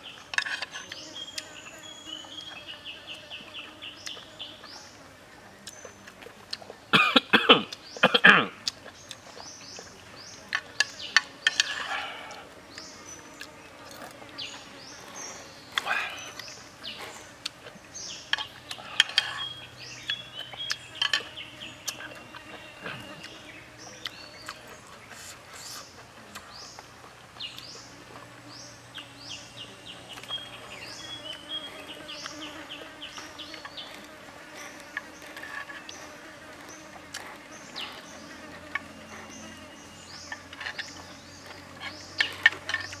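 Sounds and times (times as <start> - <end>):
birds or insects chirping: 0.0 - 43.0.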